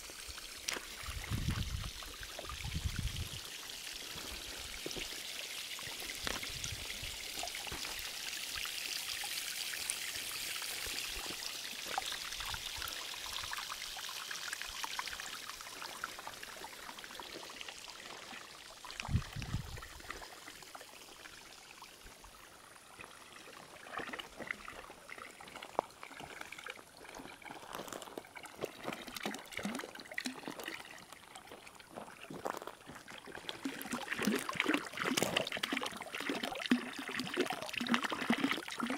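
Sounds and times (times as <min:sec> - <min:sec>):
fountain water splashing into trough: 0:00.0 - 0:38.9.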